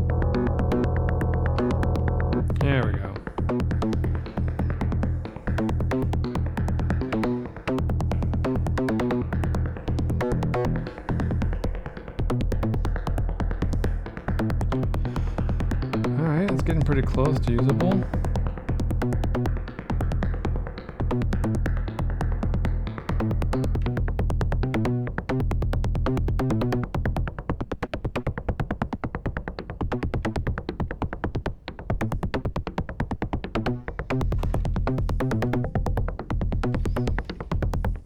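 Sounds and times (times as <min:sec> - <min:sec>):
low synth bass: 0:00.0 - 0:27.3, 0:33.6 - 0:38.0
rapid ticking synth percussion: 0:00.0 - 0:38.0.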